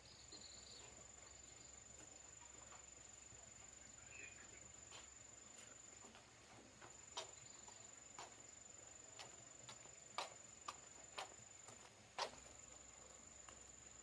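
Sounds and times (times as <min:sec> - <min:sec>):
faint light steps: 0:01.8 - 0:14.0.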